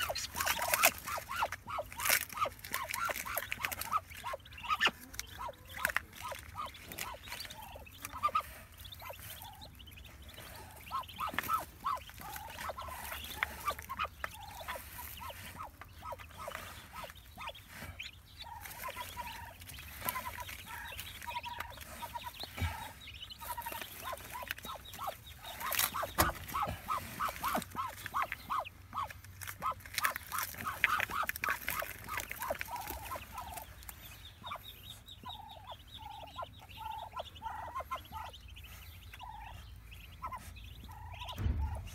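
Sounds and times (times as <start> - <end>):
duck and ducklings calling: 0.0 - 41.9.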